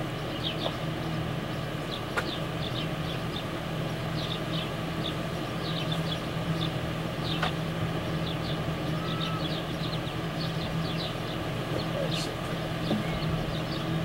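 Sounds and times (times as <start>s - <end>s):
low mechanical hum: 0.0s - 14.0s
small birds chirping: 0.0s - 14.0s.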